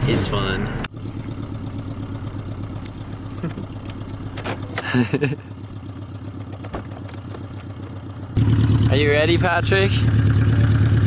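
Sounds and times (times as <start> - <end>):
motorcycle engine idling: 0.9 - 11.0.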